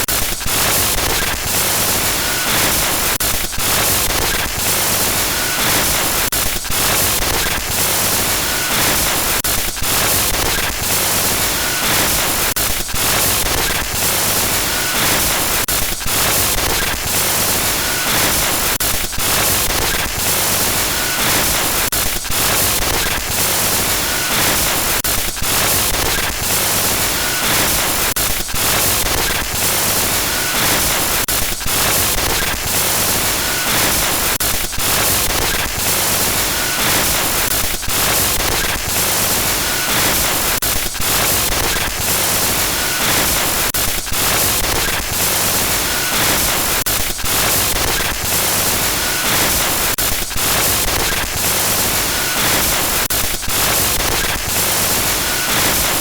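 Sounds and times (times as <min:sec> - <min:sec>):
harsh glitchy static crackling: 0:00.0 - 0:56.0.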